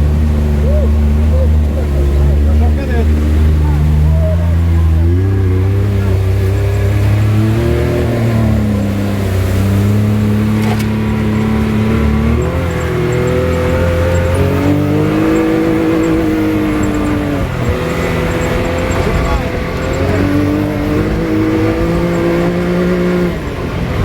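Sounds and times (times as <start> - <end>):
engine running under load: 0.0 - 24.0.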